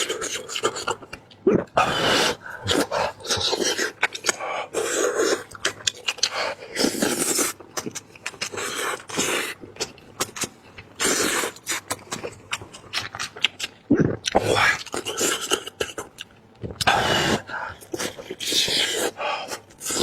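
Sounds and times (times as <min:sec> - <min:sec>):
person chewing with lip-smacks: 0:00.0 - 0:20.0.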